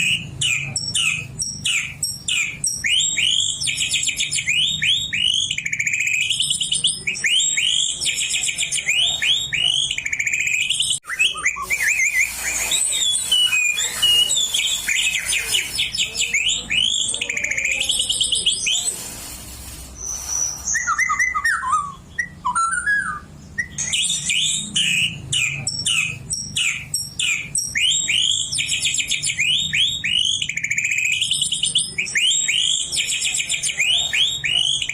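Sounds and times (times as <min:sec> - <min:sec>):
bird singing varied song: 0:00.0 - 0:19.1, 0:20.0 - 0:34.9.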